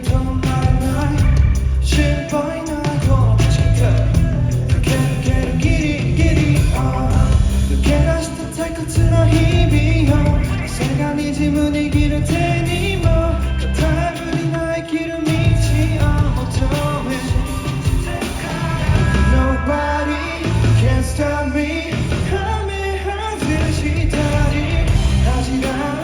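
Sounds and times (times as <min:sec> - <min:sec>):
pop song over sound system: 0:00.0 - 0:26.0.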